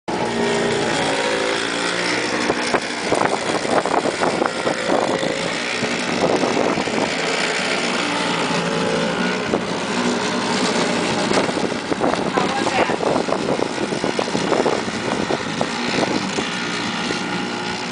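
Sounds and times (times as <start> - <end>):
engine running: 0.1 - 17.9
wind gusting across microphone: 0.1 - 17.9.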